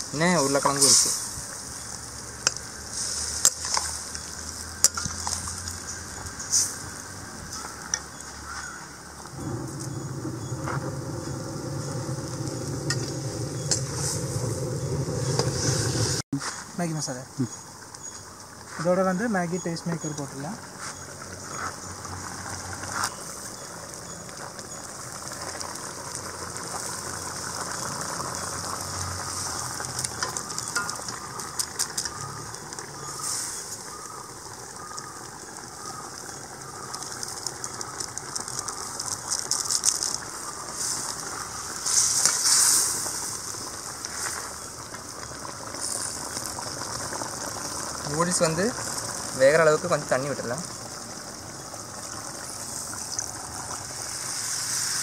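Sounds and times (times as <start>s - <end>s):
stock simmering and sizzling: 0.0s - 55.0s.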